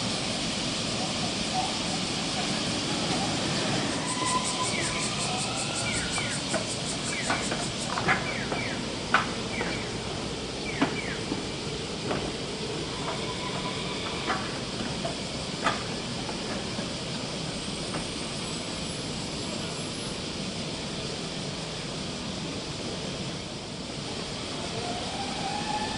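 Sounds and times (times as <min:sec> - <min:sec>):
street noise: 0:00.0 - 0:25.9.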